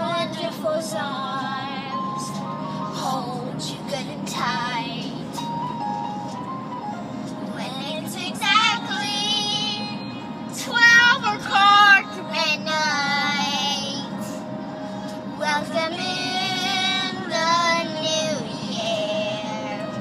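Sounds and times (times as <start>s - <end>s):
recorded pop song with woman singing: 0.0s - 5.6s, 7.4s - 14.4s, 15.1s - 20.0s.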